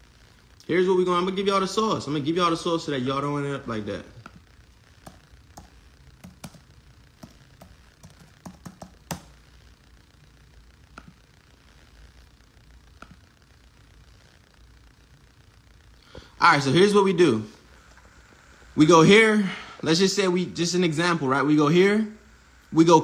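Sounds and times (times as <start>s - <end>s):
faint low room hum: 0.0s - 23.0s.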